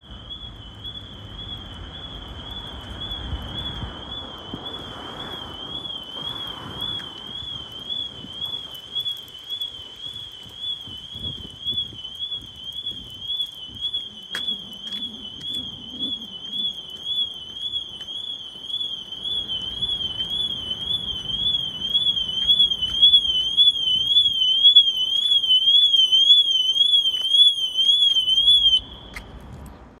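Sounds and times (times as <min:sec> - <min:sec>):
warbling electronic alarm tone: 0:00.0 - 0:29.0.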